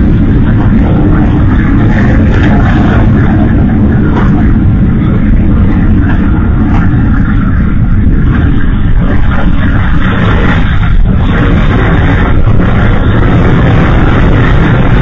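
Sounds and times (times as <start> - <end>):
fire crackles: 0.0 - 15.0
fire roaring: 0.0 - 15.0.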